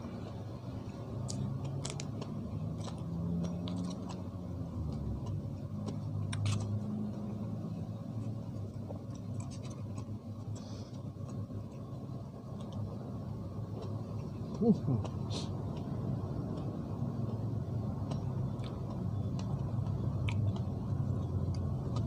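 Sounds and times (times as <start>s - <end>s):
man chewing food: 0.0s - 22.0s
steady low hum: 0.0s - 22.0s.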